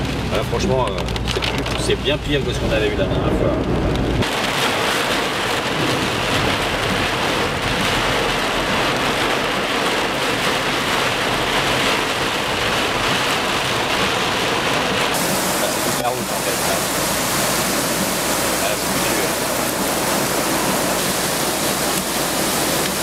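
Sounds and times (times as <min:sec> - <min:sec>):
heavy rain on car roof: 0:00.0 - 0:23.0.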